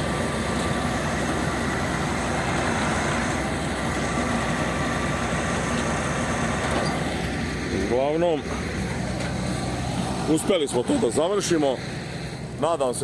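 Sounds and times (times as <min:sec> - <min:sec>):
faint steady whines: 0:00.0 - 0:13.0
farm machine engine running: 0:00.0 - 0:13.0.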